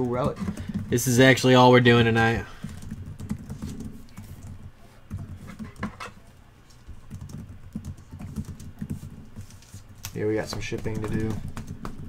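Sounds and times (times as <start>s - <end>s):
hands clicking and tapping at desk: 0.0s - 12.0s.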